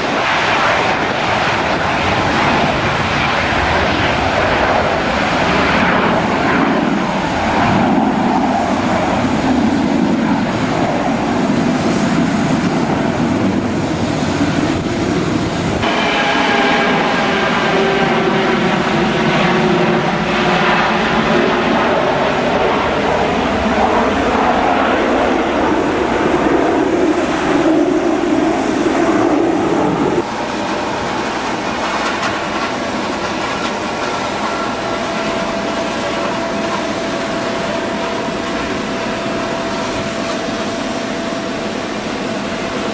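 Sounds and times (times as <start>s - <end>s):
aircraft engines running: 0.0s - 42.9s.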